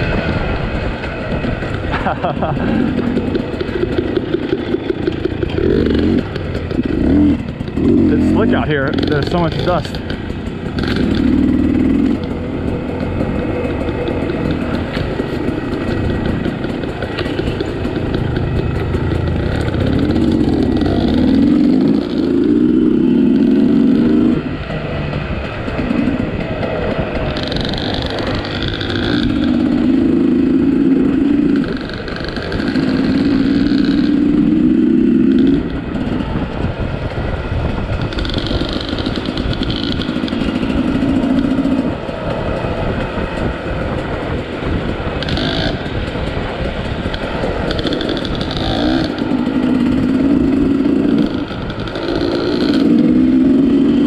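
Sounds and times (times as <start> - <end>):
dirt bike engine revving: 0.0 - 36.8, 37.6 - 54.0.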